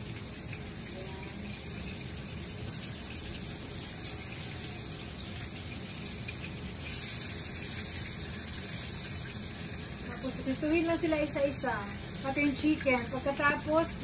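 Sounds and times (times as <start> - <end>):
liver sizzling in a frying pan: 0.0 - 14.0.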